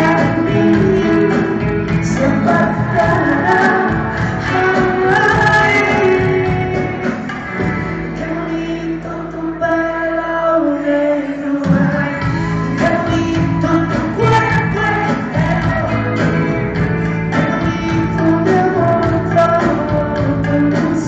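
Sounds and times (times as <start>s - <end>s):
drums: 0.0s - 9.8s, 11.4s - 21.0s
live band with singing: 0.0s - 21.0s.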